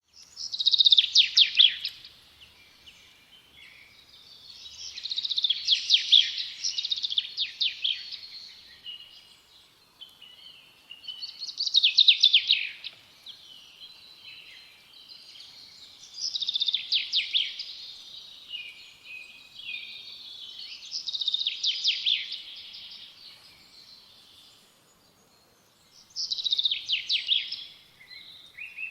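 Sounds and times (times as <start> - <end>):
songbird singing: 0.0 - 28.9
quiet bird twittering: 0.1 - 28.9.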